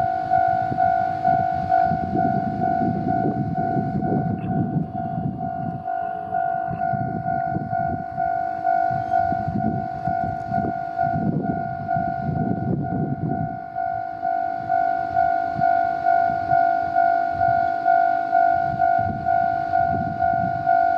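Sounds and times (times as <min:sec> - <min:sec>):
diesel railcar rumble: 0:00.0 - 0:20.9
level-crossing alarm ringing: 0:00.0 - 0:20.9.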